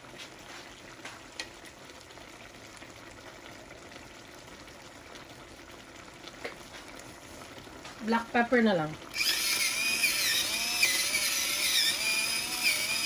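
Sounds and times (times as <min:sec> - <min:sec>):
pan bubbling hiss: 0:00.0 - 0:13.0.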